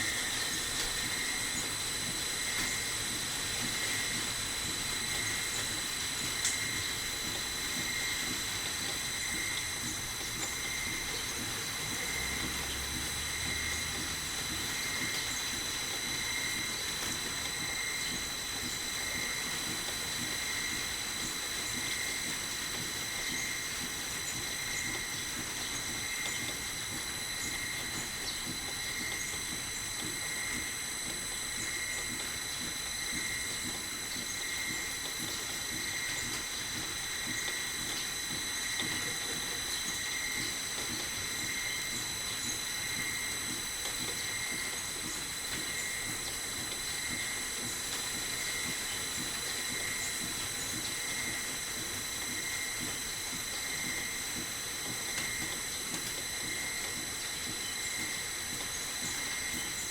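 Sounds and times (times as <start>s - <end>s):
metal lathe whining: 0.0s - 59.9s.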